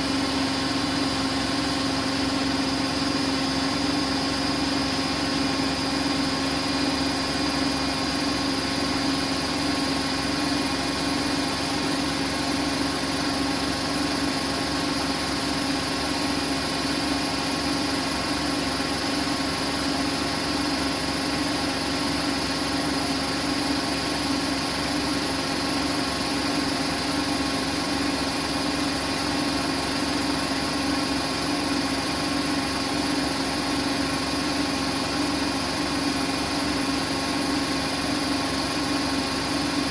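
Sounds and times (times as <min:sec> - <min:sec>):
washing machine humming: 0:00.0 - 0:20.3, 0:25.2 - 0:39.9.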